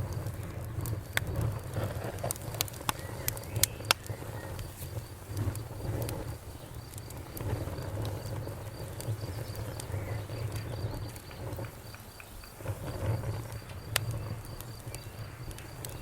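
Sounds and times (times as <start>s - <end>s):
fire crackling and popping: 0.0s - 16.0s
low rumble of fire: 0.0s - 16.0s.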